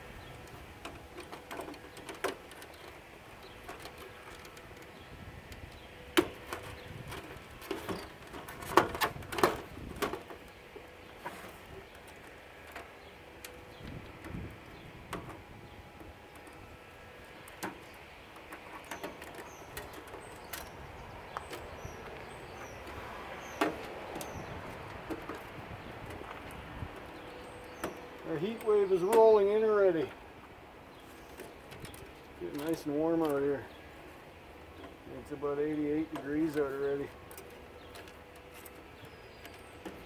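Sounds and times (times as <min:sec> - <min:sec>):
faint birds chirping: 0:00.0 - 0:40.0.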